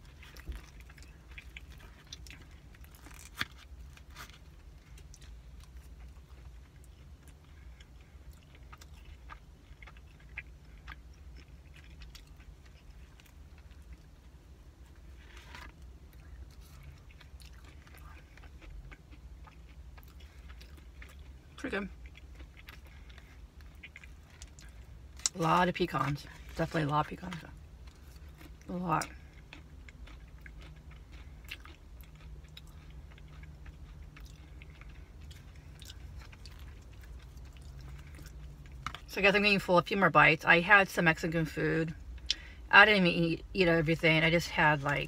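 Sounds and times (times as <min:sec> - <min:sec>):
quiet chewing: 0:00.0 - 0:25.4, 0:26.0 - 0:39.1
low steady hum: 0:00.0 - 0:45.0.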